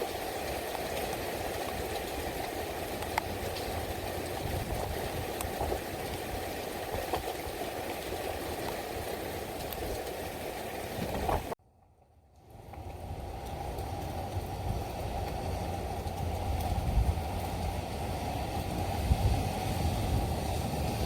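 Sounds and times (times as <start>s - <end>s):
steady rain falling: 0.0s - 11.6s, 12.3s - 21.0s.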